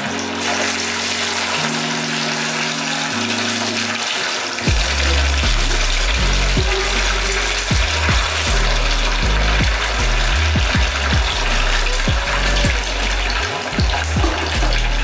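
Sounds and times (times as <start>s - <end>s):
background music with low notes: 0.0s - 15.0s
fish sizzling in hot oil: 0.0s - 15.0s.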